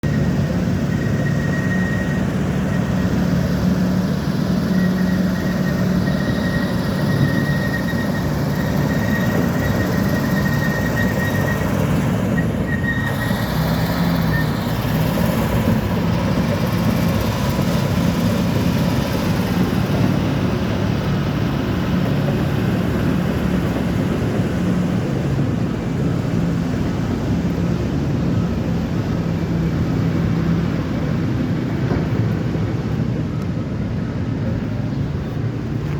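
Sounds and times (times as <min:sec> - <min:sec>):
bulldozer diesel engine drone: 0:00.0 - 0:35.9.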